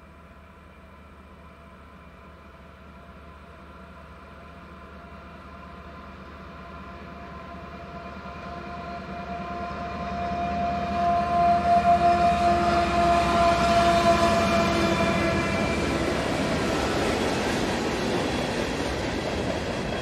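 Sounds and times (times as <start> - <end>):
diesel locomotives passing: 0.0 - 20.0.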